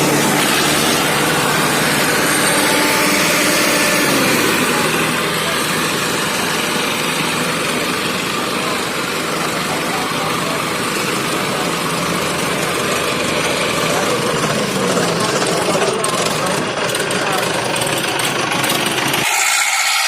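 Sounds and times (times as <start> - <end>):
voices: 0.0 - 19.3
diesel tractor engines running: 0.0 - 20.0.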